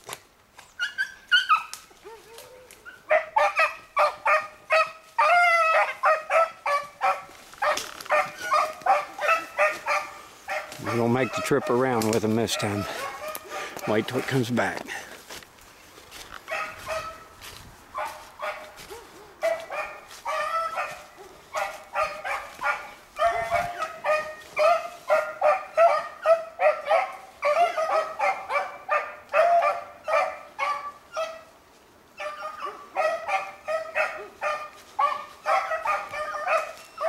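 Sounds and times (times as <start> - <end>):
hounds barking and baying: 0.8 - 15.0, 16.1 - 37.0.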